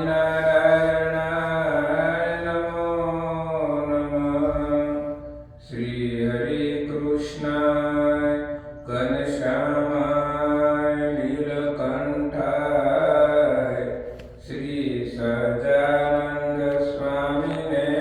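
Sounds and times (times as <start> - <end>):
devotional chanting: 0.0 - 18.0.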